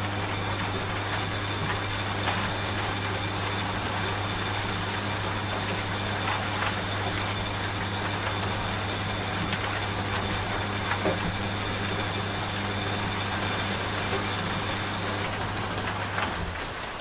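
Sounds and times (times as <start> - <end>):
steady rain: 0.0 - 17.0
washing machine humming: 0.0 - 17.0.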